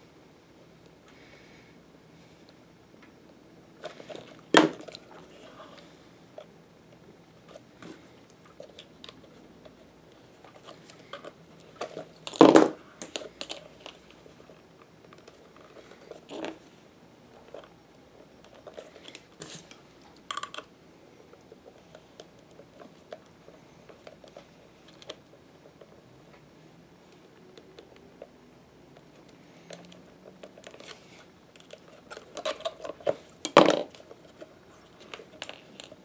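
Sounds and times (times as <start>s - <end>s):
soft handling clicks and rustles: 2.2s - 36.0s.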